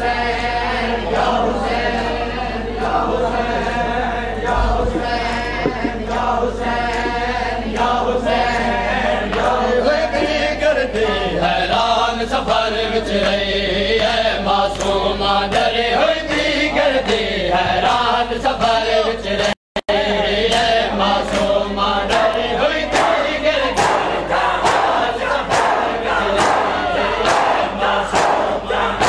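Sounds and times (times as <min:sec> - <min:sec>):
men chanting: 0:00.0 - 0:29.0
rhythmic chest-beating slaps: 0:00.0 - 0:29.0.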